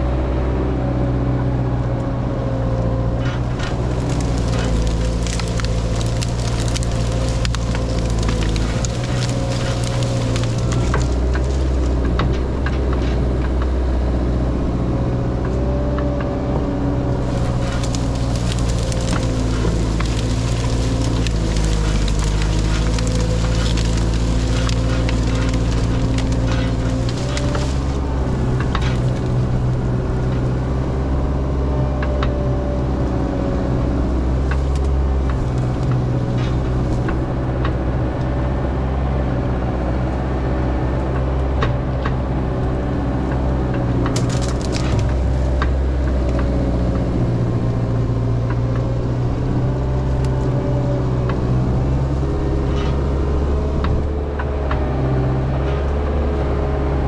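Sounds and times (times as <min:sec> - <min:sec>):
dozer diesel engine under load: 0:00.0 - 0:57.0
branches snapping and cracking: 0:02.8 - 0:14.3, 0:15.4 - 0:57.0.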